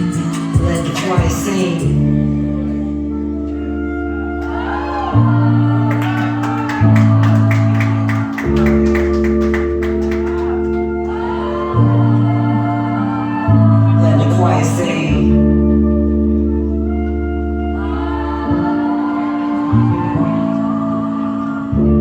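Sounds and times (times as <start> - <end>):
low held chords: 0.0 - 22.0.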